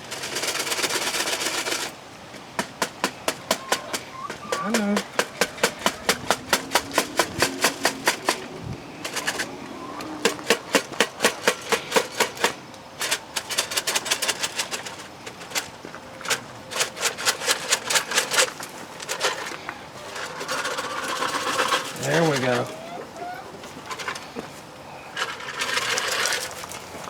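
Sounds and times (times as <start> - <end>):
rapid mechanical clicking: 0.0 - 2.0, 2.6 - 22.6.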